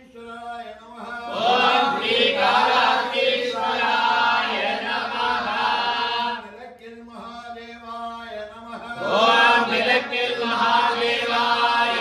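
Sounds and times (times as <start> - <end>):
men chanting a hymn: 0.8 - 12.0.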